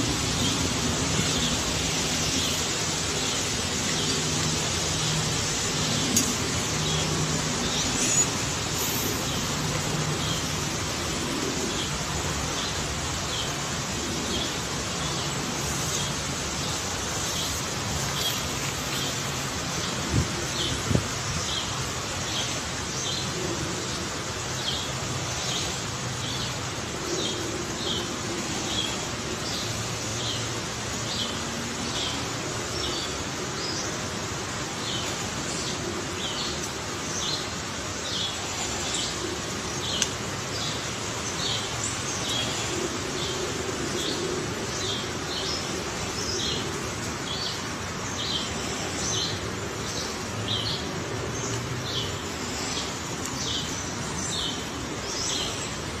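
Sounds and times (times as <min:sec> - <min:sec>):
outdoor hiss: 0:00.0 - 0:56.0.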